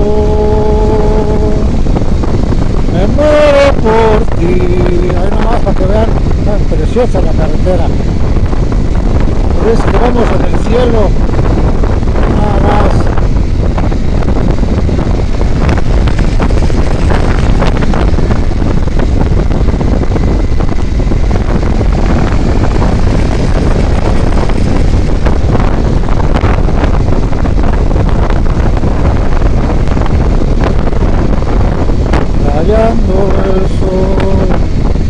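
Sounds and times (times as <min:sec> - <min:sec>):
road noise: 0:00.0 - 0:35.0
vehicle engine running: 0:00.0 - 0:35.0
wind buffeting microphone: 0:00.0 - 0:35.0.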